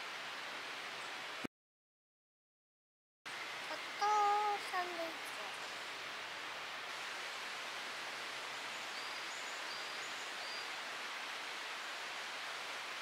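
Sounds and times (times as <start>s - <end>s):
outdoor background hiss: 0.0s - 1.5s, 3.3s - 13.0s.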